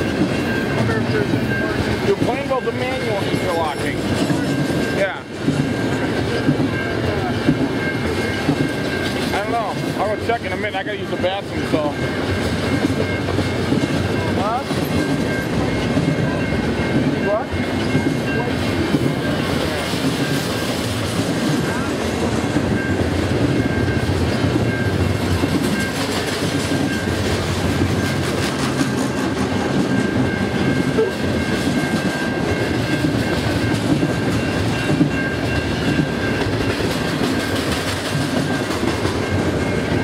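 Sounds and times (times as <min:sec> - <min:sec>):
steel wheels rumbling on rails: 0:00.0 - 0:40.0.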